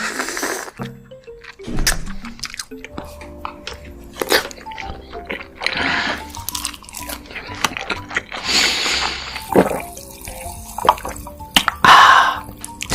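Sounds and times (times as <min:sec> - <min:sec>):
soft background music: 0:00.0 - 0:12.9.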